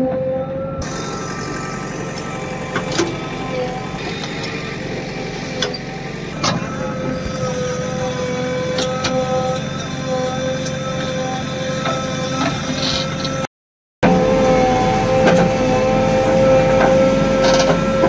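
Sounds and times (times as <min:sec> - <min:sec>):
diesel engine whining under load: 0:00.0 - 0:18.0.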